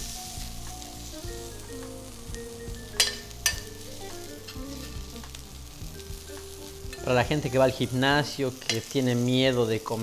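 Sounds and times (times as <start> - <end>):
background music: 0.0 - 10.0
faint sizzle from hot pan: 0.0 - 10.0.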